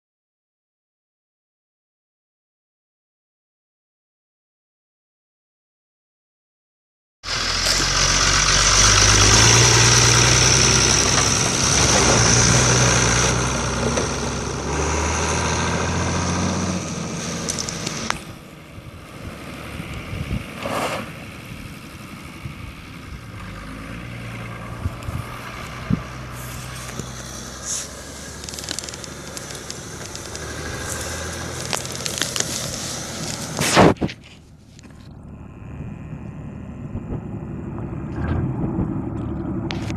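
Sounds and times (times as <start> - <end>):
diesel truck engine pulling away: 7.2 - 34.2, 34.8 - 39.9.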